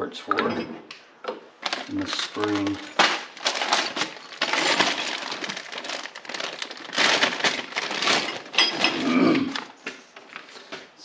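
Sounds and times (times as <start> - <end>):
plastic bags crinkling: 1.6 - 10.8.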